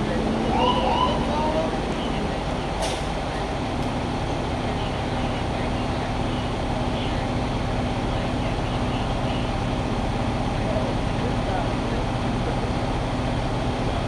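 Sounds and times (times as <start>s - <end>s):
constant hum: 0.0s - 14.0s
truck engine idling: 0.0s - 14.0s.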